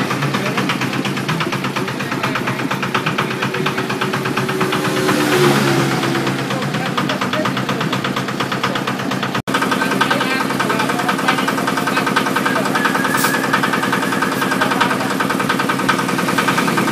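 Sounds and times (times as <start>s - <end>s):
small engine running: 0.0s - 16.9s.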